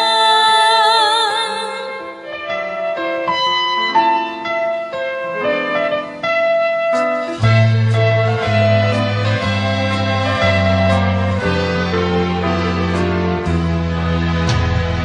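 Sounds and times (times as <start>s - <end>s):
piano-toned keyboard melody: 0.0s - 15.0s.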